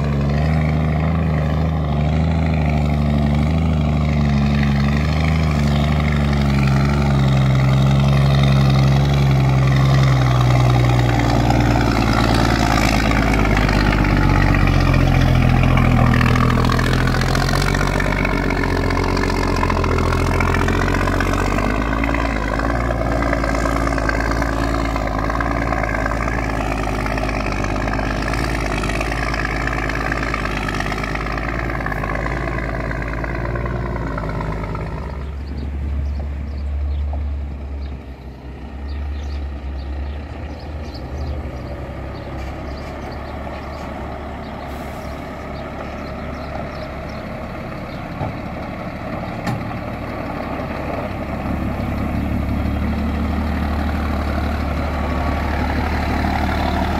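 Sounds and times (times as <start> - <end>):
truck diesel engine droning: 0.0 - 56.9.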